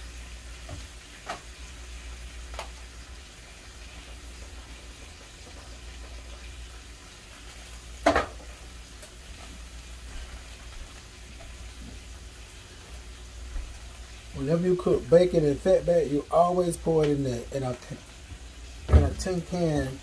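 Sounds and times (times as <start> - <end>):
cabbage sizzling faintly: 0.0 - 20.0.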